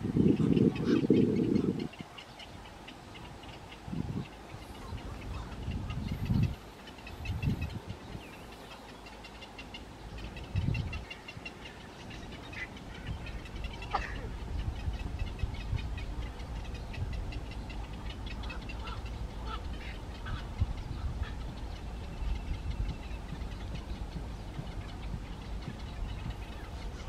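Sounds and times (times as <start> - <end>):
birds chirping: 0.0 - 27.0
steady low rumble: 0.0 - 27.0.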